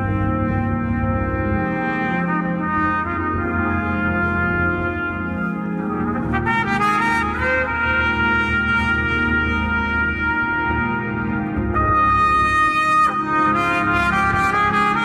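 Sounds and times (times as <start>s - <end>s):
band playing: 0.0s - 15.0s
bass: 0.0s - 15.0s
trumpet solo: 0.0s - 15.0s.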